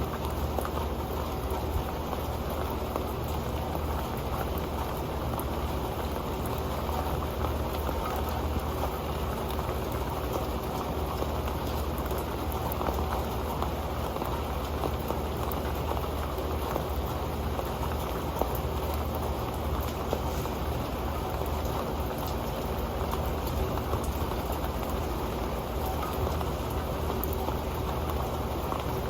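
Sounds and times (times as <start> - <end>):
rain falling on a pan: 0.0 - 29.0.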